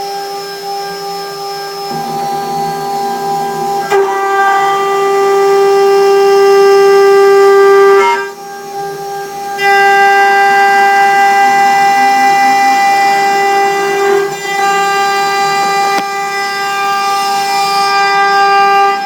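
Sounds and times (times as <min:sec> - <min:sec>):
mill cutting metal high tone: 0:00.0 - 0:19.0.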